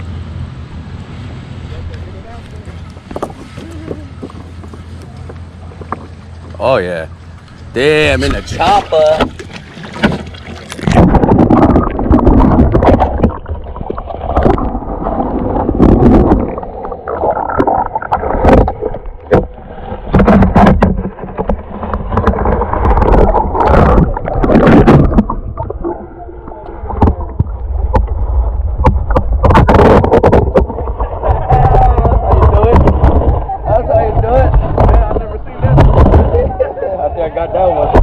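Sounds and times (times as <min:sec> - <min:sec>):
low rumble of handling: 0:00.0 - 0:38.0
water splashing and sloshing: 0:00.0 - 0:38.0.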